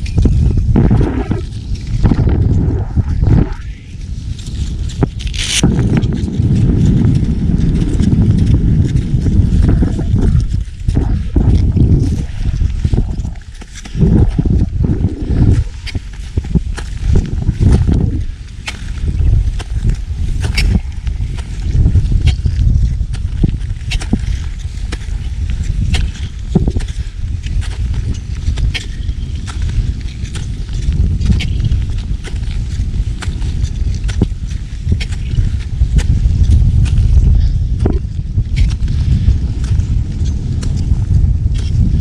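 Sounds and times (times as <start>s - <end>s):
footsteps crunching in snow: 0.0s - 42.0s
low rumble: 0.0s - 42.0s
wind buffeting microphone: 0.0s - 42.0s.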